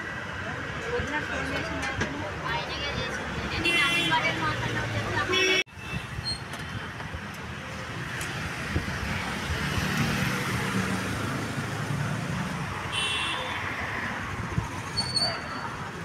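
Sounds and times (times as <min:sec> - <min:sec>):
traffic rushing past: 0:00.0 - 0:16.0.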